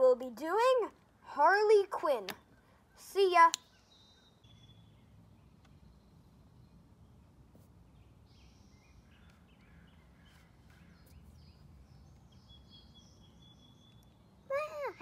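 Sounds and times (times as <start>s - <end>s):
faint bird chirps: 2.3s - 15.0s.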